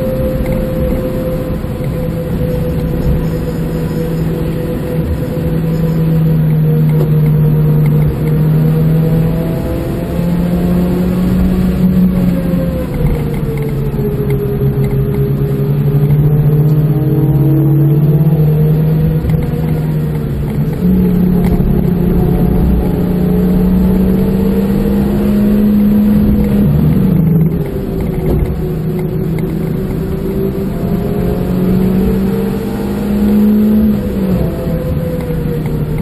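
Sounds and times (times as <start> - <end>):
car engine from inside cabin: 0.0 - 36.0
road and tyre rumble: 0.0 - 36.0.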